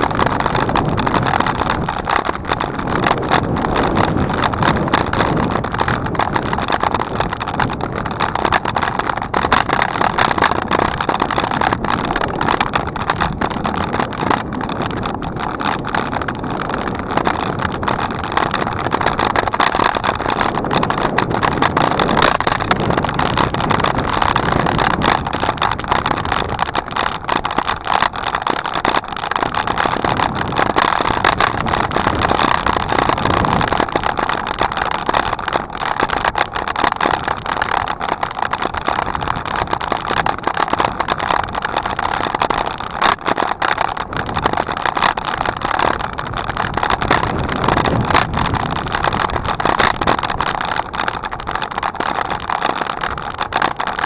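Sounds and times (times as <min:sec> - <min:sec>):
bicycle rattling clicks: 0:00.0 - 0:54.0
wind and tyre noise: 0:00.0 - 0:54.0.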